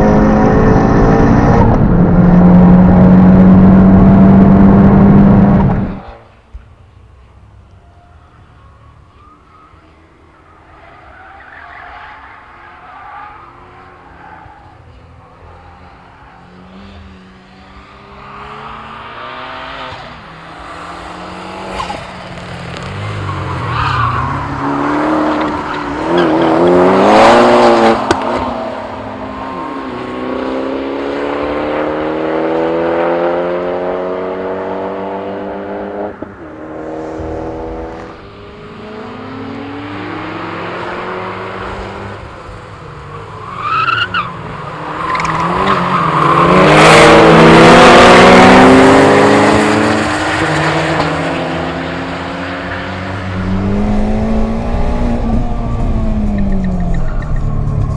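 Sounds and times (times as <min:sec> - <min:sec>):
turbocharged car engine revving: 0:00.0 - 0:06.2, 0:15.5 - 0:57.9.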